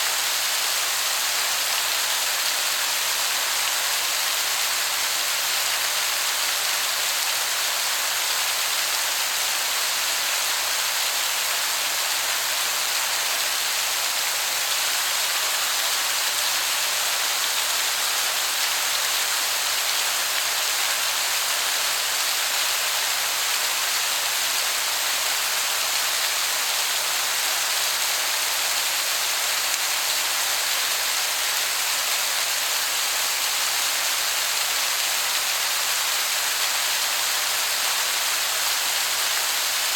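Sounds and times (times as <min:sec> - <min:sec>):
distant waterfall hiss: 0:00.0 - 0:39.9.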